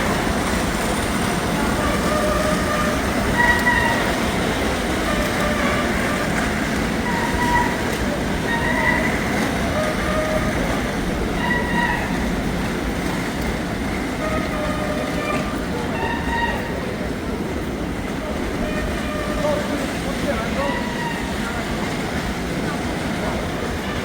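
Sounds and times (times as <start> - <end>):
train rumbling and rattling: 0.0 - 24.0.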